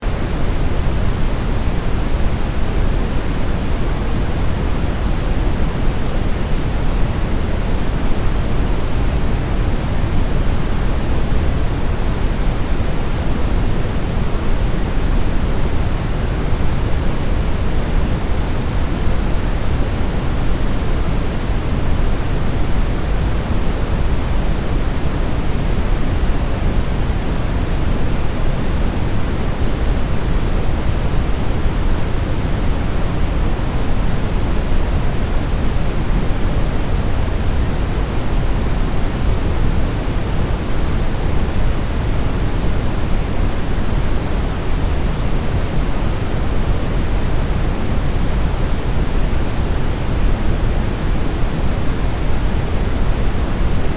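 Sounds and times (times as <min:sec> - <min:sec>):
brown noise hiss: 0:00.0 - 0:53.9.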